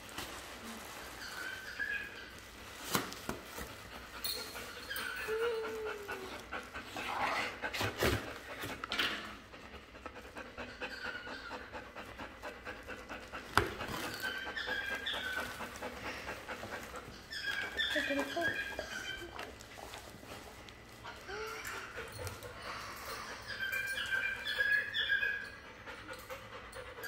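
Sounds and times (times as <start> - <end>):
rhythmic panting: 3.7 - 17.3, 17.9 - 27.0.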